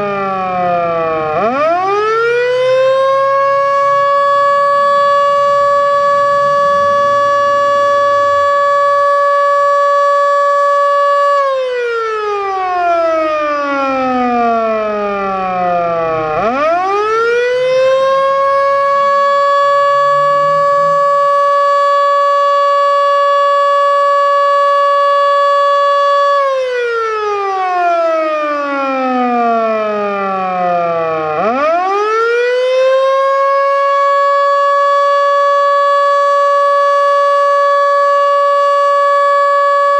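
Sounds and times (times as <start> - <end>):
storm siren wailing: 0.0 - 39.9.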